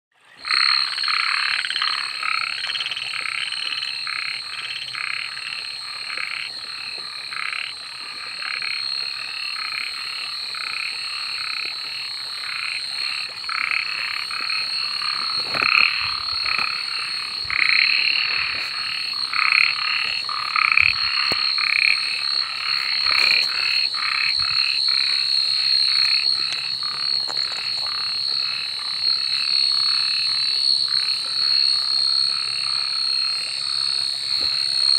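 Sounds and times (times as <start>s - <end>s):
frogs croaking in chorus: 0.2s - 34.9s.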